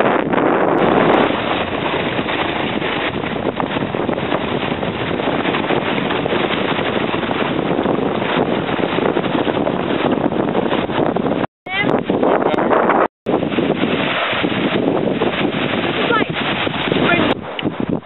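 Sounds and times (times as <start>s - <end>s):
wind buffeting microphone: 0.0s - 18.0s
water splashing over a ledge: 0.2s - 11.5s, 13.3s - 18.0s.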